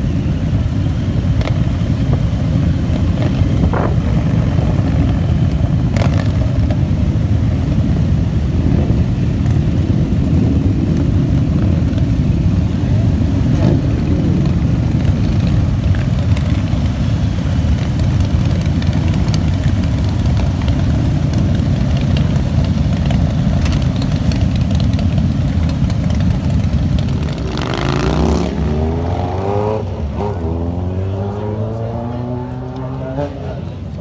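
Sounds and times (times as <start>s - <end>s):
motorcycle engines running: 0.0s - 34.0s
motorcycle engine revving: 0.6s - 33.7s.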